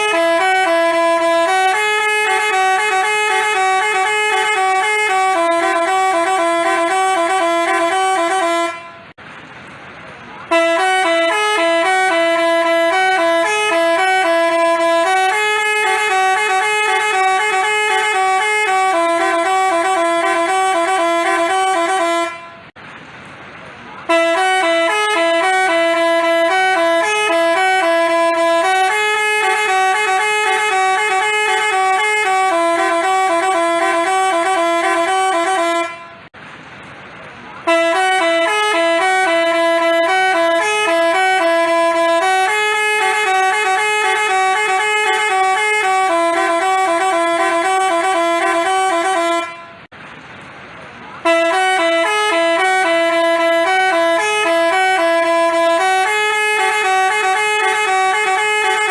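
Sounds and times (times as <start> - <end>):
bus horn playing a melody: 0.0 - 9.2, 10.4 - 22.8, 24.0 - 36.4, 37.6 - 49.9, 51.2 - 58.9.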